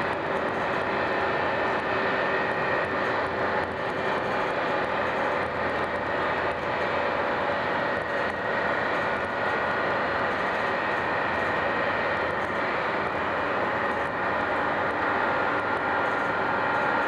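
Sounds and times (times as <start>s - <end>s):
train interior running rush: 0.0s - 17.0s.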